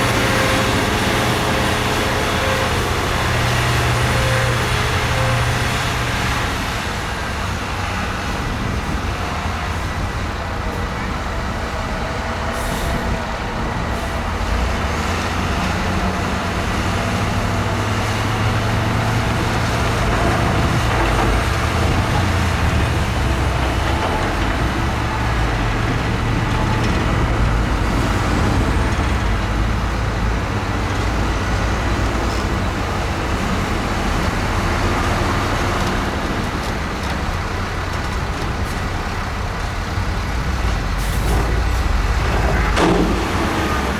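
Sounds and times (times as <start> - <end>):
heavy diesel machinery droning: 0.0 - 43.9.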